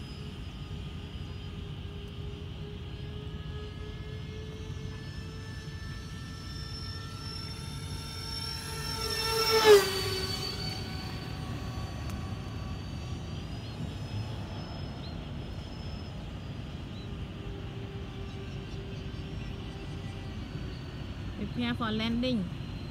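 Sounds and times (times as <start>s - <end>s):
electric ducted fans whining: 0.0s - 22.9s.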